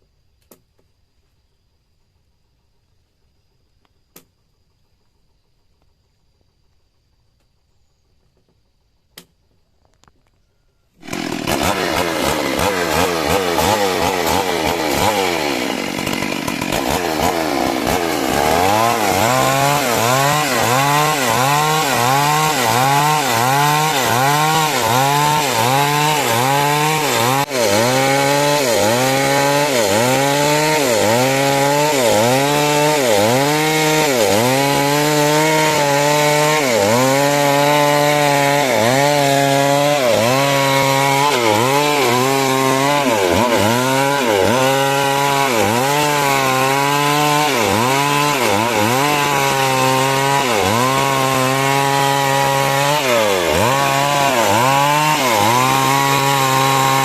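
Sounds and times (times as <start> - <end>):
chainsaw cutting timber: 11.0 - 57.0.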